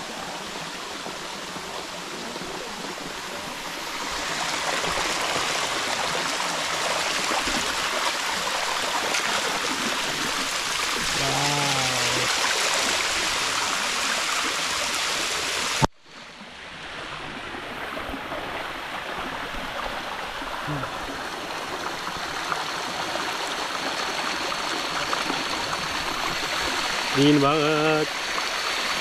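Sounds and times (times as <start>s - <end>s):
waterfall rushing water: 0.0s - 15.9s, 16.9s - 29.0s.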